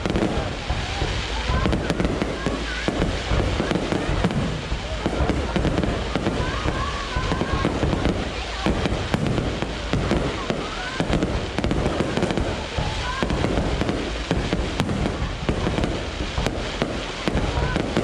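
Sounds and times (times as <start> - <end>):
fireworks bangs and crackles: 0.0 - 18.0
people's voices: 0.0 - 18.0.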